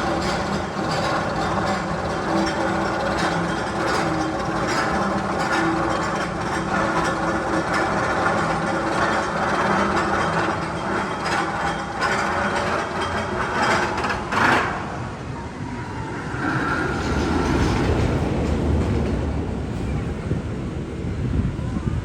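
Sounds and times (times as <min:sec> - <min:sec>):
roller coaster rattling on track: 0:00.0 - 0:22.0.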